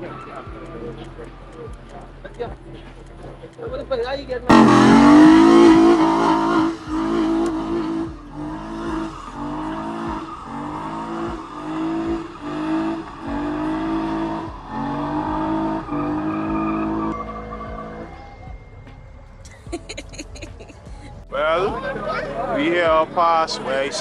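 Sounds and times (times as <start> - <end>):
car engine revving: 4.4 - 24.0.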